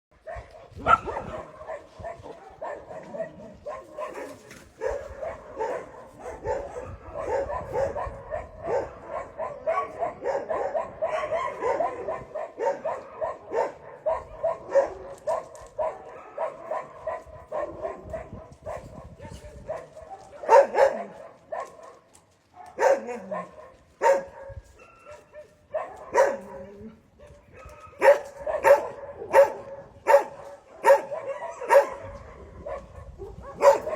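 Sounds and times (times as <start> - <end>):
dogs barking: 0.2 - 33.9.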